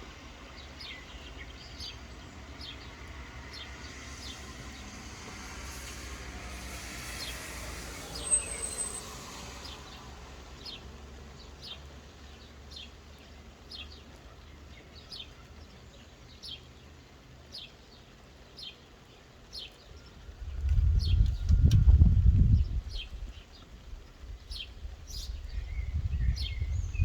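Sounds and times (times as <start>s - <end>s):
light rain hiss: 0.0s - 20.7s, 22.8s - 25.9s.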